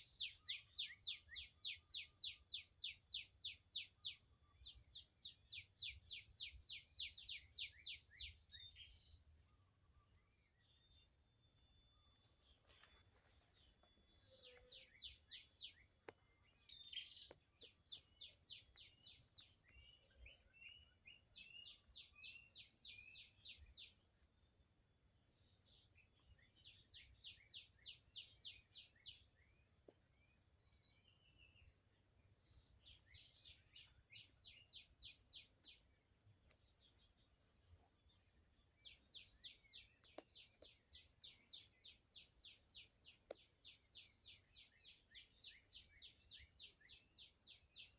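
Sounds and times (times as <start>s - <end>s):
birds chirping: 0.0s - 24.5s, 25.3s - 47.9s.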